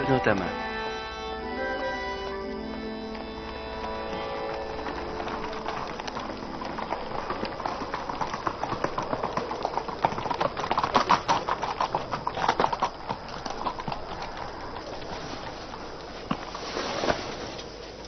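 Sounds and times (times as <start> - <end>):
horse hooves clopping: 0.0 - 18.0.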